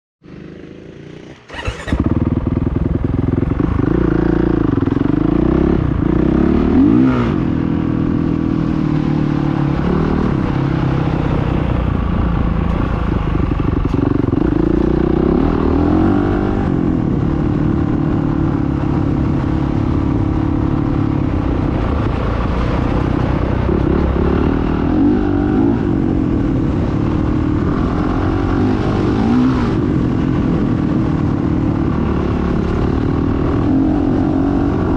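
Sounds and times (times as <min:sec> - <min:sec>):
motorcycle engines revving: 0:00.2 - 0:34.9.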